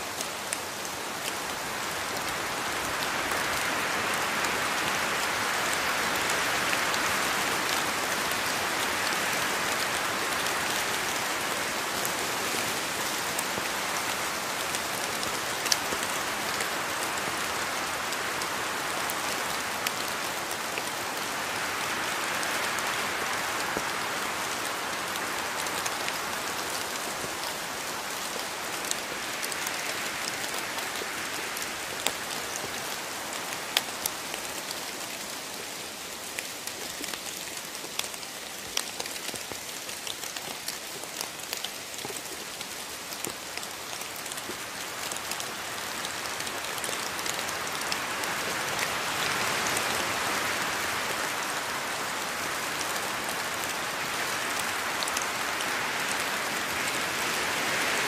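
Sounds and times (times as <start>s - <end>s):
raindrops striking close by: 0.0s - 58.0s
steady rain: 0.0s - 58.0s.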